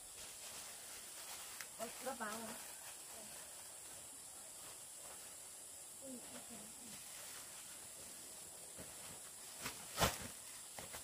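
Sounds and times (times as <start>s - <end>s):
faint high hiss: 0.0s - 11.0s.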